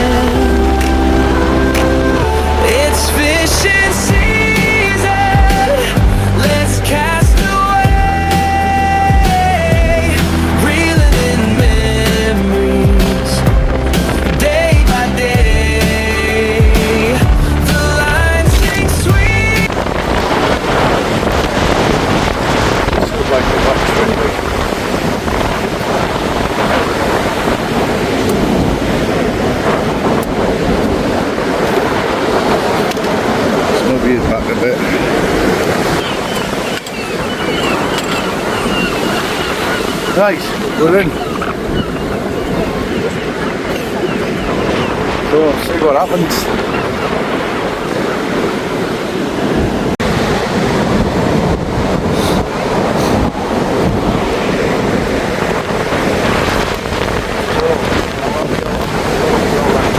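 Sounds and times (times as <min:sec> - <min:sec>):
heavy surf breaking: 0:00.0 - 0:59.9
wind buffeting microphone: 0:00.0 - 0:59.9.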